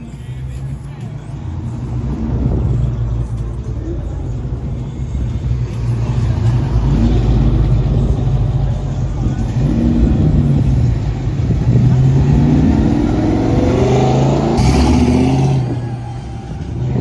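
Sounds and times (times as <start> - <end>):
car engine running: 0.1 - 17.0.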